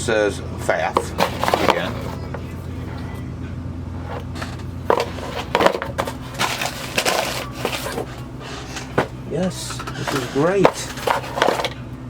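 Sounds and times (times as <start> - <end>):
cardboard boxes clicking and crinkling: 0.9 - 3.2, 4.0 - 11.8.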